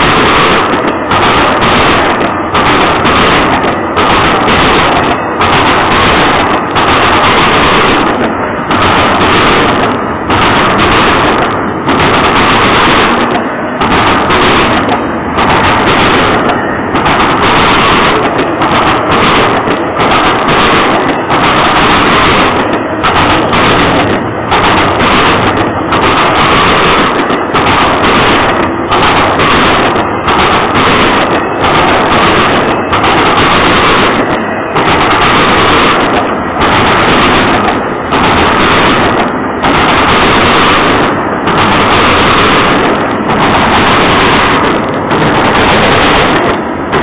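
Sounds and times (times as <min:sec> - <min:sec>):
freight train wheels clattering: 0:00.0 - 0:47.0.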